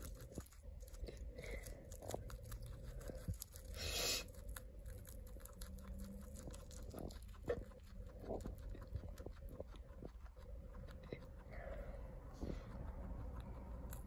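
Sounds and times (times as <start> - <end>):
guinea pig chewing leaf: 0.0 - 14.0.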